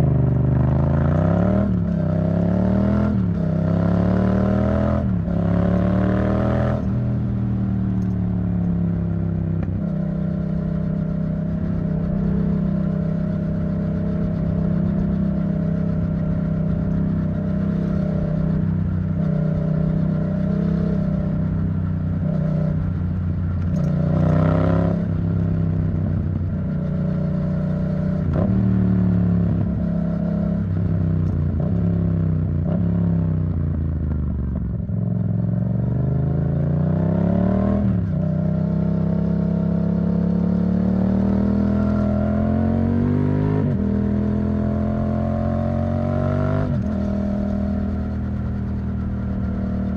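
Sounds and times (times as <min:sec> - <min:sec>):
motorcycle engine revving: 0:00.0 - 0:34.2, 0:34.8 - 0:49.9.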